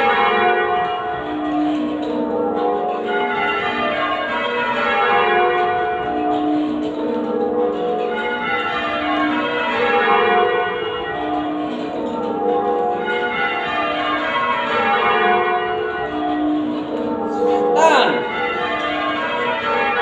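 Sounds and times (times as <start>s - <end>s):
church bells ringing changes: 0.0s - 20.0s.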